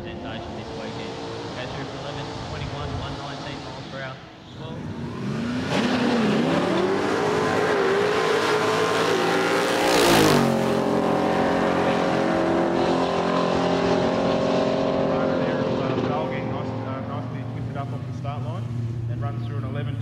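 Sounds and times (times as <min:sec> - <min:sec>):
drag car engines revving: 0:00.0 - 0:20.0.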